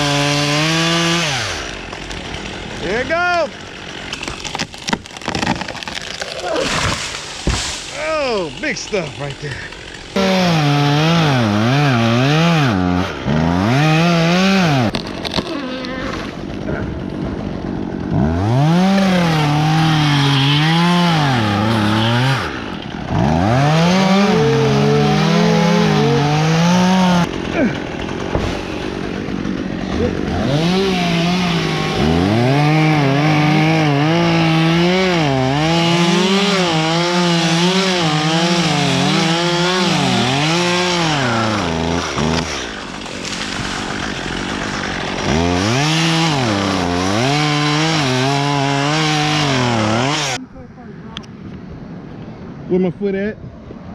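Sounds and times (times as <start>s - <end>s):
chainsaw cutting wood: 0.0s - 50.4s.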